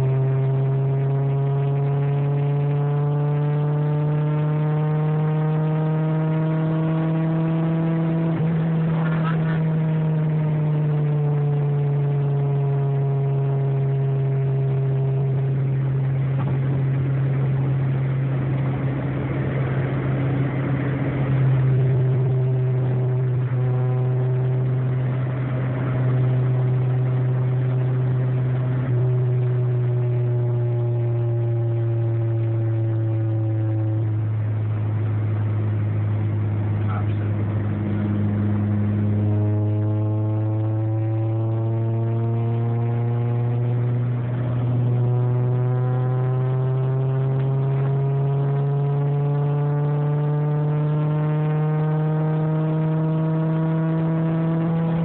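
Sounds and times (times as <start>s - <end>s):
car engine and road noise droning: 0.0s - 55.0s.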